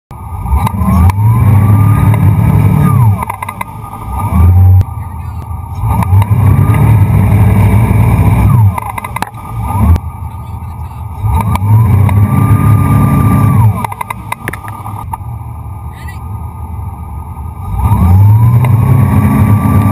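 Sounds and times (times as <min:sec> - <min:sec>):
boat engine revving: 0:00.1 - 0:19.9.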